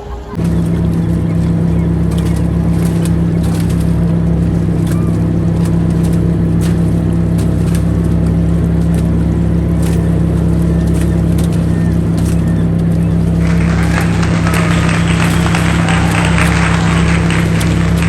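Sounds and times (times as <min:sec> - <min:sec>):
boat engine drone: 0:00.0 - 0:18.0
faint clicks: 0:00.3 - 0:18.0.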